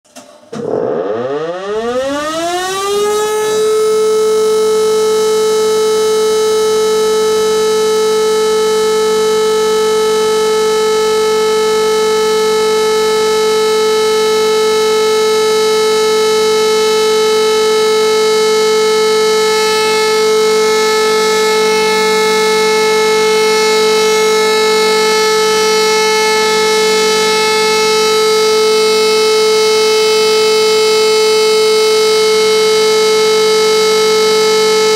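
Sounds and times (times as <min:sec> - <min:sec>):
rotary siren steady tone: 0:00.6 - 0:34.9.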